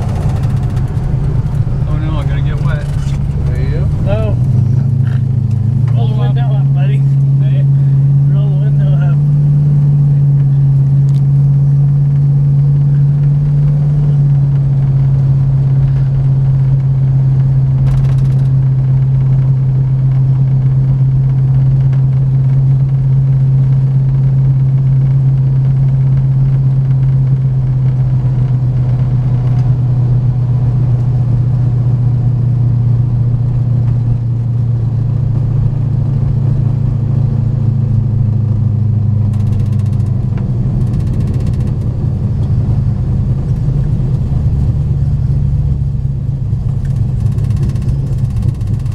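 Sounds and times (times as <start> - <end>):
car engine droning inside cabin: 0.0 - 48.9.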